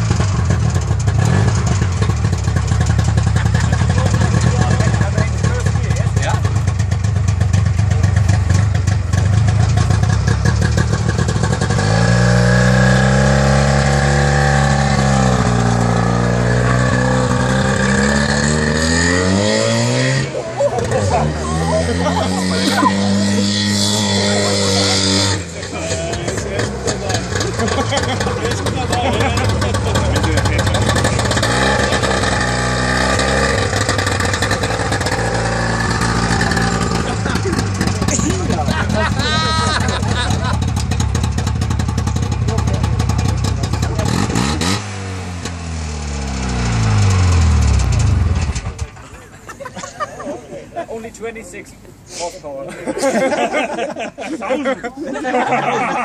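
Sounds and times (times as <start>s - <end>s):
two-stroke engine idling and revving: 0.0s - 49.7s.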